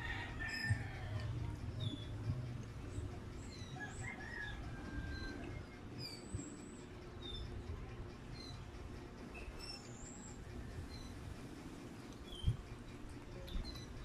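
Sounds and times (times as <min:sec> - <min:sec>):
low steady rumble: 0:00.0 - 0:14.0
small birds chirping: 0:00.1 - 0:14.0.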